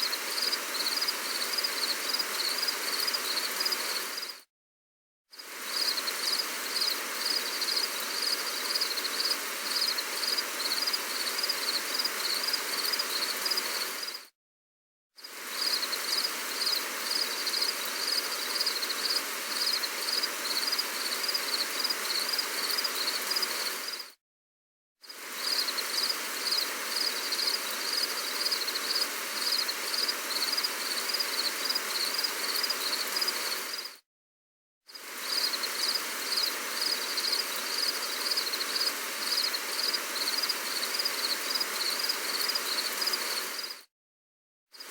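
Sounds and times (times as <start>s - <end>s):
gentle rain hiss: 0.0s - 4.4s, 5.3s - 14.3s, 15.2s - 24.2s, 25.0s - 34.0s, 35.0s - 43.8s
insects chirping: 0.0s - 4.4s, 5.4s - 14.3s, 15.2s - 24.1s, 25.1s - 34.0s, 35.0s - 43.8s.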